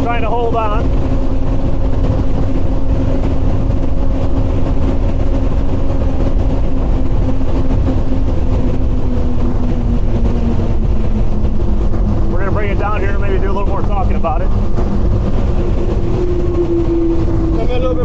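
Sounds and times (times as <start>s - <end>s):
hull rumbling on water: 0.0s - 18.0s
outboard engines droning: 0.0s - 18.0s
wind buffeting microphone: 0.0s - 18.0s.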